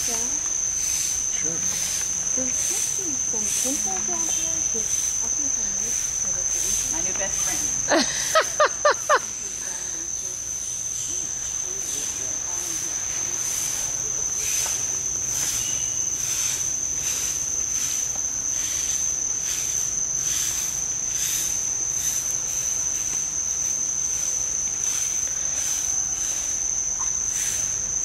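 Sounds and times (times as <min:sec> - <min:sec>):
rasping insect pulse: 0:00.0 - 0:10.3, 0:10.9 - 0:28.0
insect chorus whine: 0:00.0 - 0:28.0.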